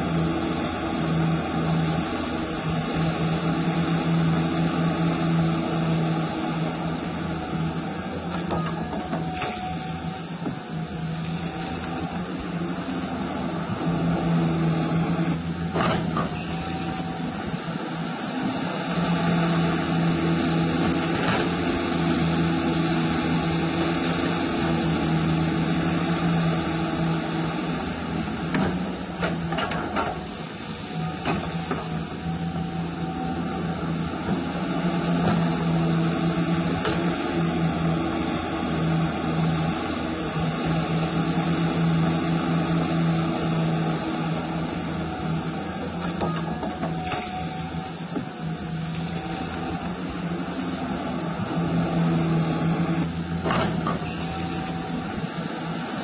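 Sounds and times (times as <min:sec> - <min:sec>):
hydraulic pump whine: 0:00.0 - 0:56.0.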